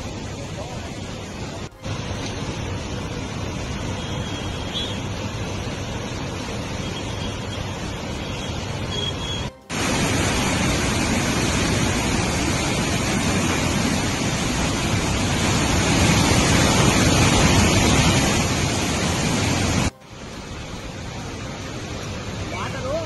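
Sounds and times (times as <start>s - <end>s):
water rushing through spillway: 0.0s - 23.0s.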